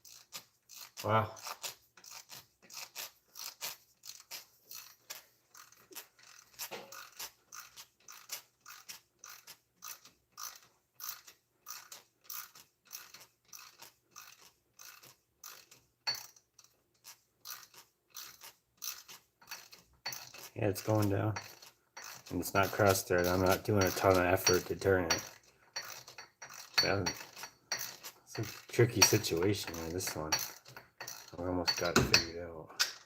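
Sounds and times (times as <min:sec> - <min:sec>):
ratchet wrench clicking: 0:00.0 - 0:32.1.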